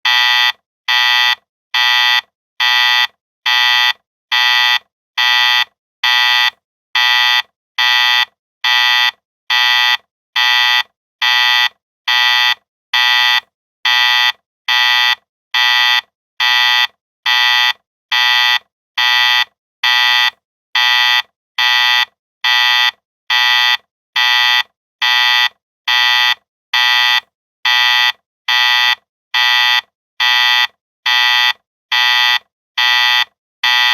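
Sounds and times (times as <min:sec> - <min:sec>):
alarm buzzer beeping: 0:00.1 - 0:33.9.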